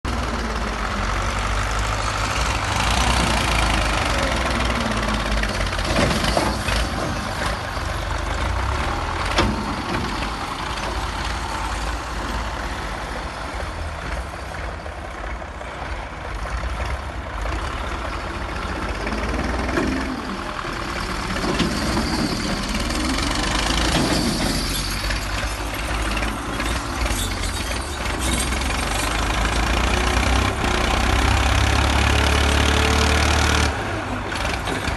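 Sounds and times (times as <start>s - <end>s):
excavator engine and hydraulics: 0.1s - 34.9s.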